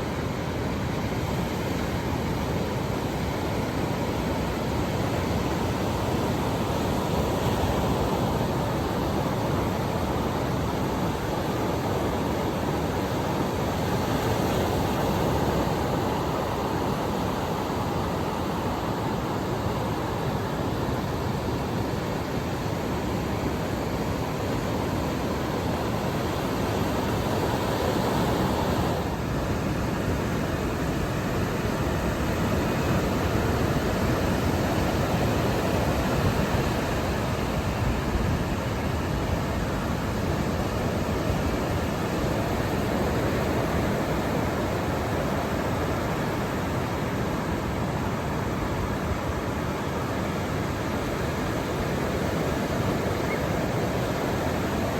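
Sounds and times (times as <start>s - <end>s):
surf breaking on a beach: 0.0s - 54.9s.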